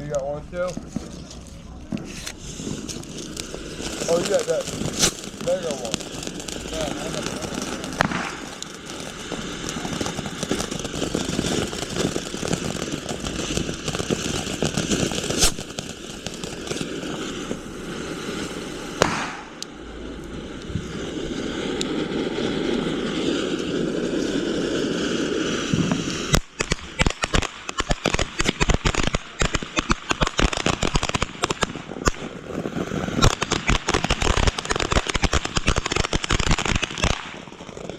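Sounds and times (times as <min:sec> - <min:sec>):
firework bangs: 0:00.0 - 0:37.9
fireworks crackling and hissing: 0:00.0 - 0:37.9
rapid firework pops: 0:00.6 - 0:37.9.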